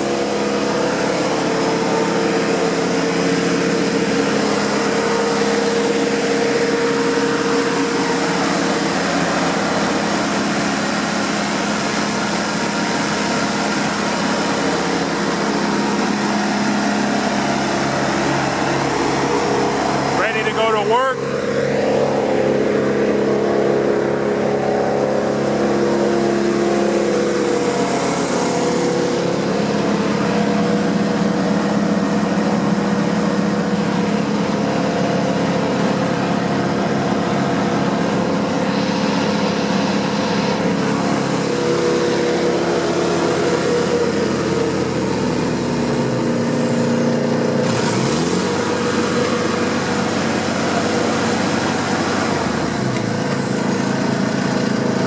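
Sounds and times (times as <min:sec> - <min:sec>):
wood chipper diesel engine: 0:00.0 - 0:55.0.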